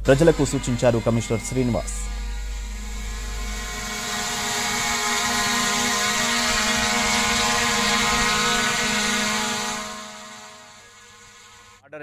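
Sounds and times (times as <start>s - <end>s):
drone propeller motor humming: 0.0s - 11.8s.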